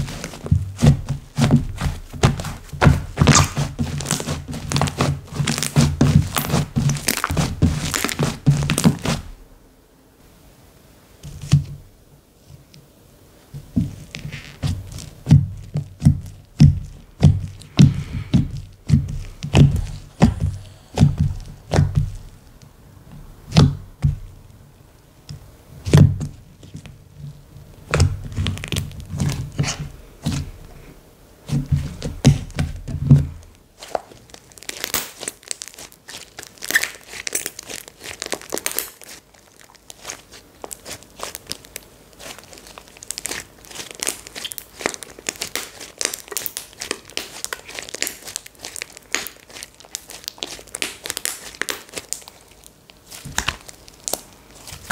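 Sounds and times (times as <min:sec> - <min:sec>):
hands squishing slime: 0:00.0 - 0:09.4, 0:13.6 - 0:24.4, 0:25.8 - 0:54.9
crinkly crackling of slime: 0:00.0 - 0:09.5, 0:13.6 - 0:24.6, 0:25.3 - 0:54.9.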